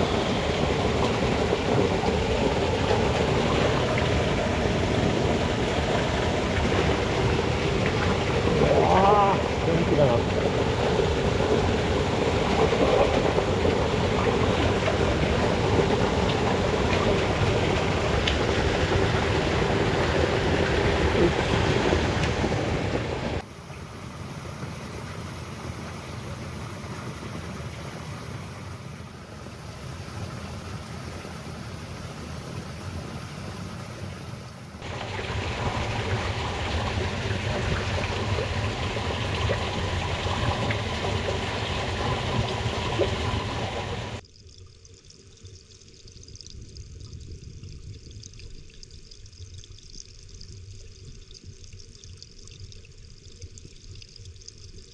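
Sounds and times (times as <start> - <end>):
water rushing in a channel: 0.0 - 44.2.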